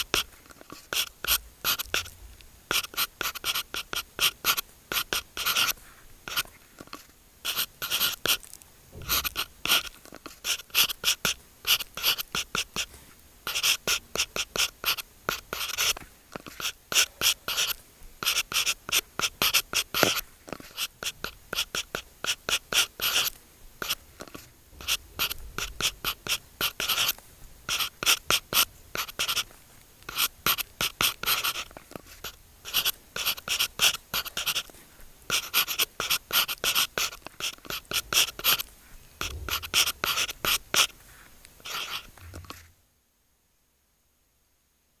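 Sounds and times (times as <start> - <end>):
stylus writing on tablet screen: 0.0 - 42.7.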